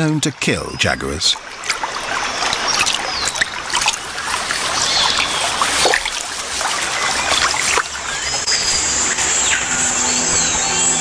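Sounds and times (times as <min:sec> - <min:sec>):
water splashing and trickling: 0:00.3 - 0:11.0.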